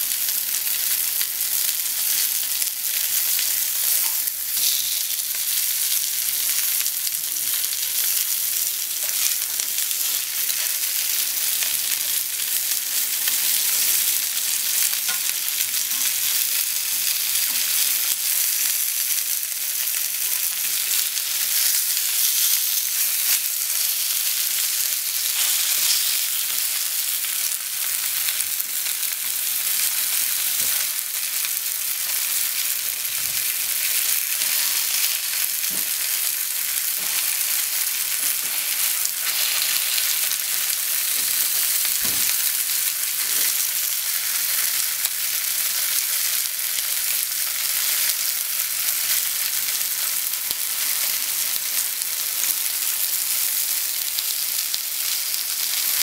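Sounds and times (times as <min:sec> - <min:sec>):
meat sizzling in oil: 0:00.0 - 0:56.0.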